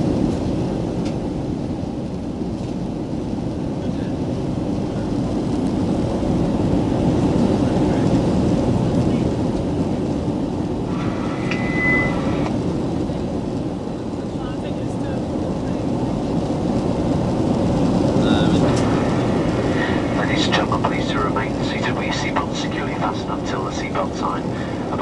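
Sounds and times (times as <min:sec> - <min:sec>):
airliner cabin engine roar: 0:00.0 - 0:25.0.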